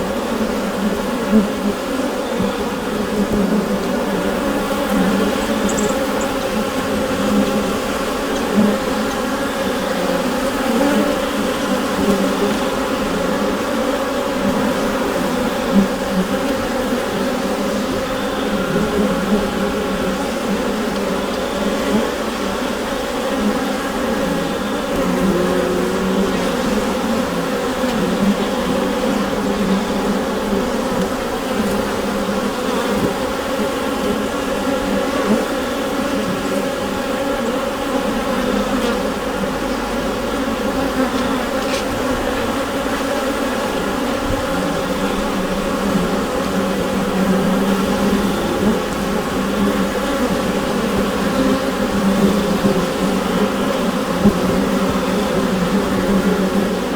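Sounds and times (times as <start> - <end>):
bees humming in hive: 0.0 - 56.9.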